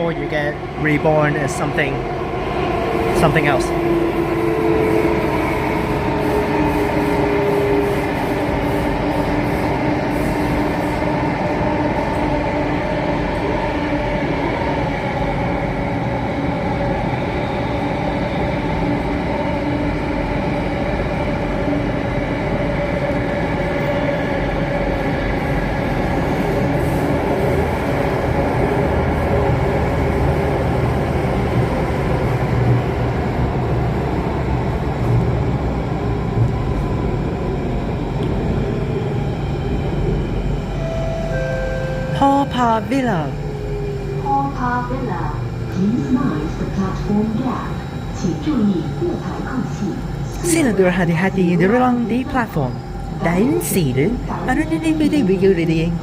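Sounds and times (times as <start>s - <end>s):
metro train running noise: 0.0s - 56.0s.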